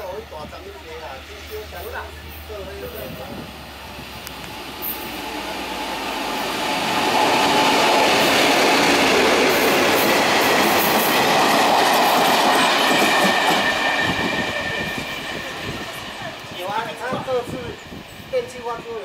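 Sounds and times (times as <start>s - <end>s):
diesel locomotive engine: 0.0s - 19.0s.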